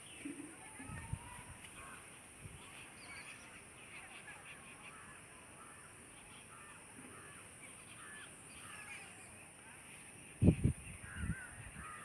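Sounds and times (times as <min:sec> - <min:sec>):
faint bird calls: 0:00.0 - 0:12.0
steady high-pitched hiss: 0:00.0 - 0:12.0.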